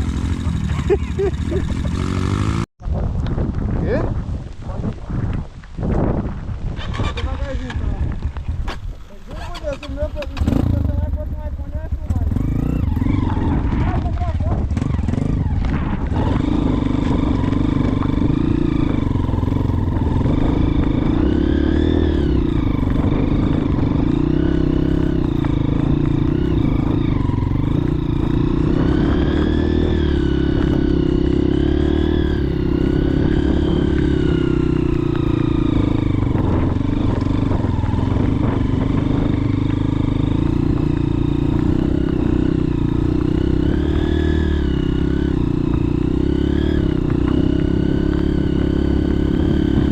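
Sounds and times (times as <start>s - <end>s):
motorcycle engine running: 0.0s - 4.0s, 6.2s - 49.9s.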